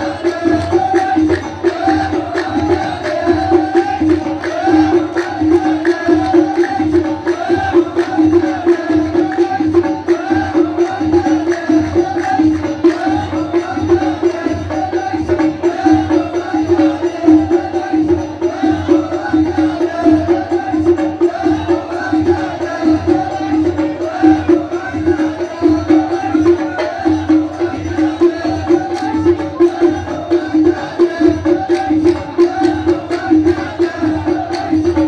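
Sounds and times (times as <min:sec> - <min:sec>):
frame drums and hand percussion: 0:00.0 - 0:35.0.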